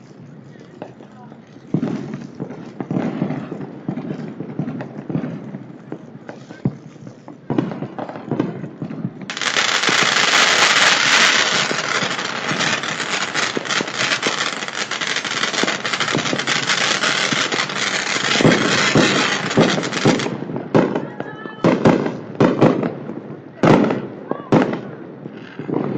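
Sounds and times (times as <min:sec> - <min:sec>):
fireworks crackling and hissing: 0:00.0 - 0:25.9
fireworks pops: 0:00.0 - 0:25.9
fireworks bangs: 0:00.8 - 0:25.9.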